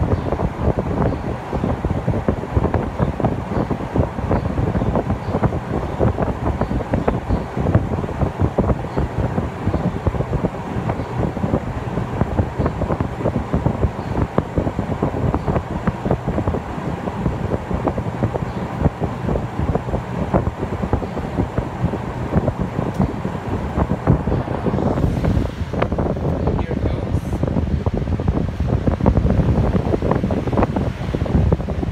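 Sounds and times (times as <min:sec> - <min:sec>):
air conditioner fan rumbling: 0:00.0 - 0:31.9
wind buffeting the microphone: 0:00.0 - 0:31.9.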